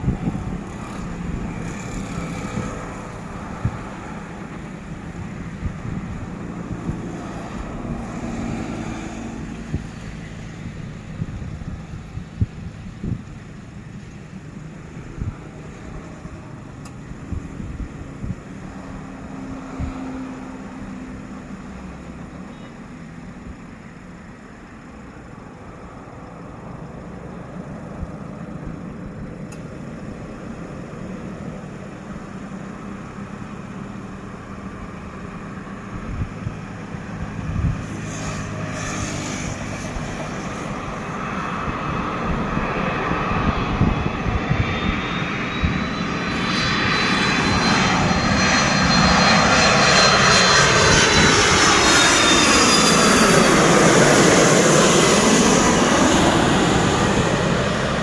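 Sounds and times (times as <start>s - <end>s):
airliner engine noise: 0.0s - 58.0s
high engine whine: 0.0s - 58.0s.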